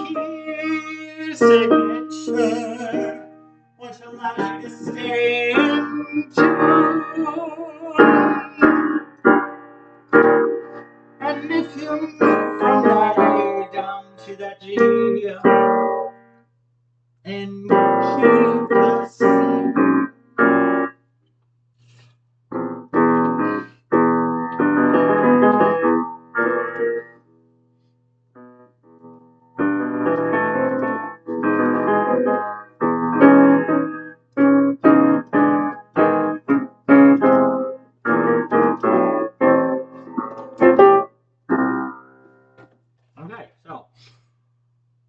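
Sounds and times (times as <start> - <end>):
piano chords: 0.0 - 16.4, 17.3 - 21.0, 22.5 - 27.5, 28.4 - 42.8.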